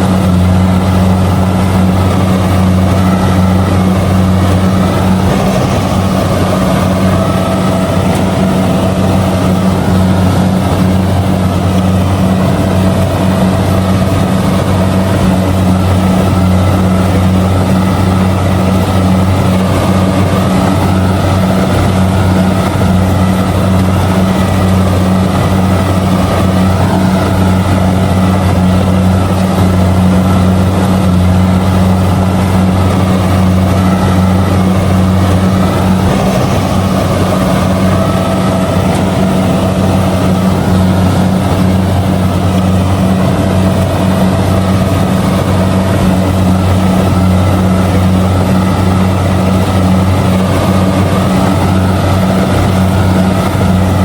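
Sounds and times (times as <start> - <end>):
combine harvester droning: 0.0 - 54.0.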